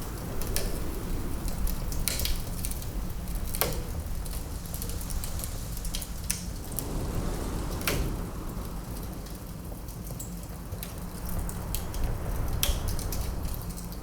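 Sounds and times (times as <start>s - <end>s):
fire popping: 0.0s - 14.0s
low steady rumble: 0.0s - 14.0s
wood fire crackling: 0.0s - 14.0s.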